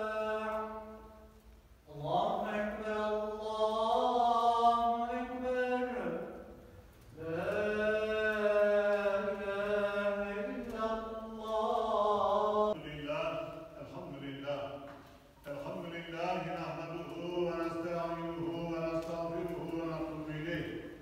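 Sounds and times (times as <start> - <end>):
man chanting: 0.0 - 1.2, 1.9 - 21.0.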